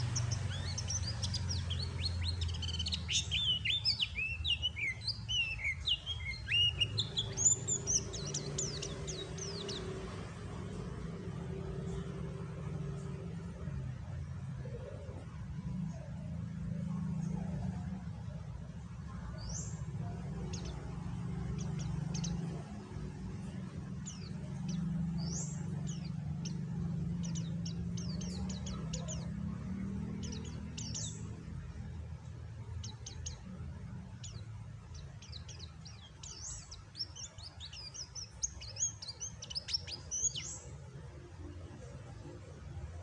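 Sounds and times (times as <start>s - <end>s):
bird chirping: 0.0s - 43.0s
steady low rumble: 6.3s - 43.0s.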